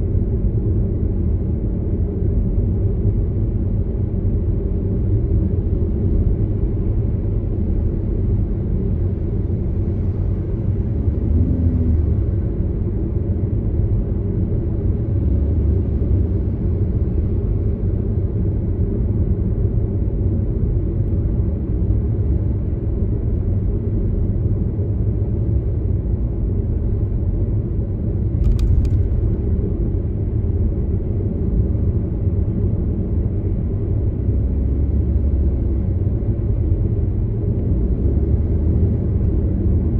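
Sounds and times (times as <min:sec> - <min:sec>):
car driving rumble: 0:04.2 - 0:39.9.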